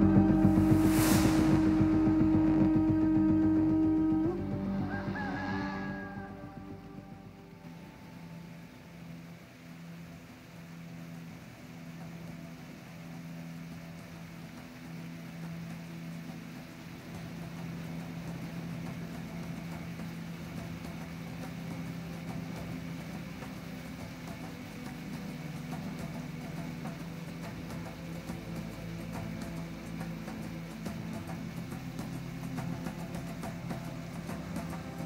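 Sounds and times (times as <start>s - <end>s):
outboard motor running: 0.0s - 35.0s.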